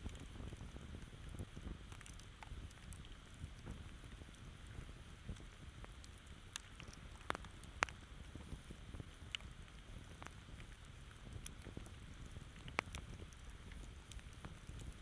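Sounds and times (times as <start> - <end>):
campfire crackling and popping: 0.0 - 15.0
low fire rumble: 0.0 - 15.0.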